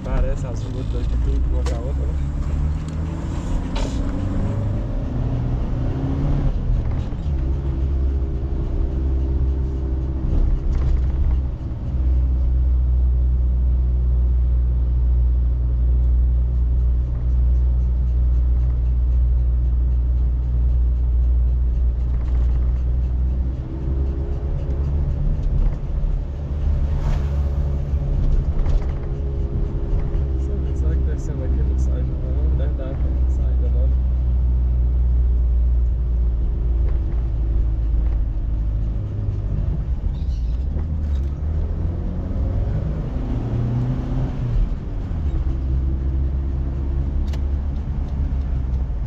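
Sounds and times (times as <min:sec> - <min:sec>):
engine and road rumble: 0:00.0 - 0:49.0
engine hum: 0:00.0 - 0:49.0.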